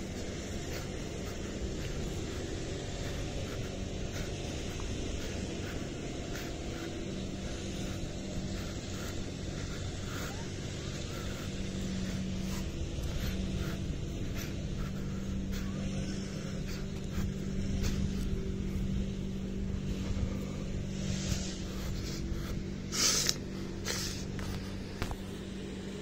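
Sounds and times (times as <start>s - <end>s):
grass trimmer engine droning: 0.0s - 26.0s.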